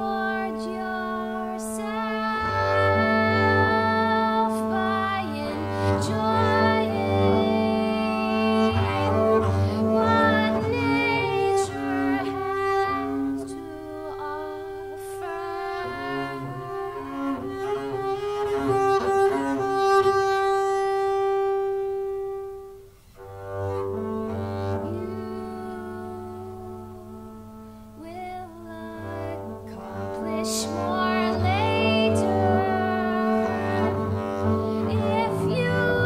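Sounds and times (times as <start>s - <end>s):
bowed double bass: 0.0s - 36.0s.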